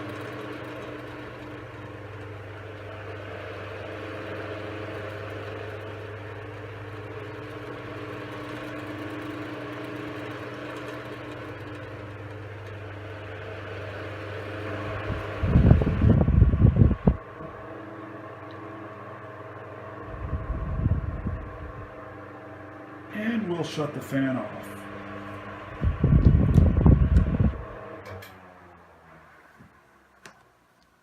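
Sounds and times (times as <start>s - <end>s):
electric fan motor hum: 0.0s - 31.0s
rush of air from fan blades: 2.6s - 28.1s.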